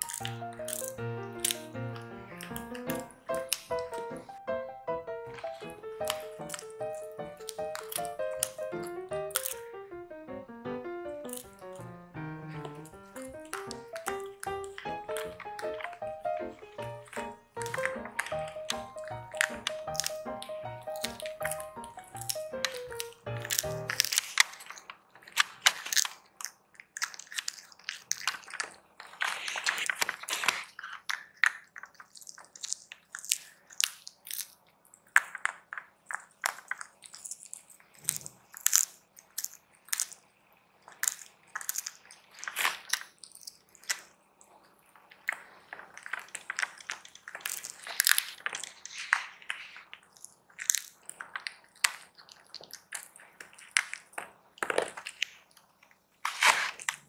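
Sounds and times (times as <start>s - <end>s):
cat chewing dried fish: 0.0s - 4.4s, 5.3s - 9.7s, 11.2s - 57.0s.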